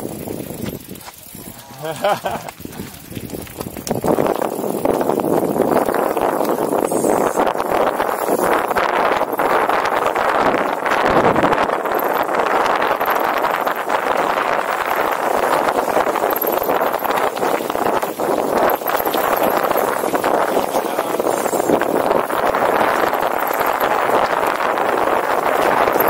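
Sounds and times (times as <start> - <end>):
bike rattling and knocking: 0.0 - 26.0
wind rushing over microphone: 0.0 - 26.0.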